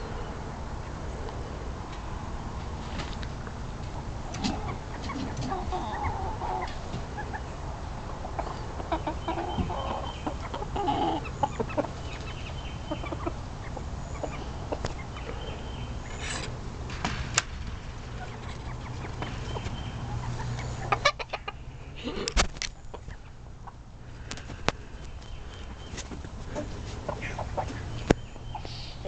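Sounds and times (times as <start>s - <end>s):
chickens clucking: 2.8s - 16.6s, 17.9s - 29.0s.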